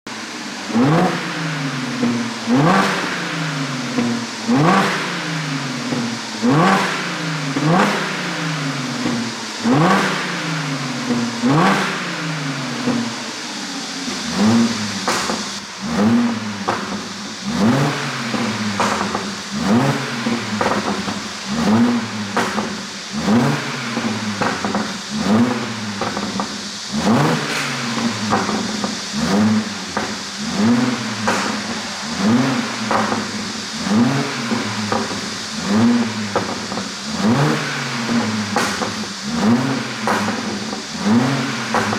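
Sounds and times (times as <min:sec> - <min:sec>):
car engine revving: 0:00.1 - 0:41.9
exhaust popping and crackling: 0:00.1 - 0:41.9.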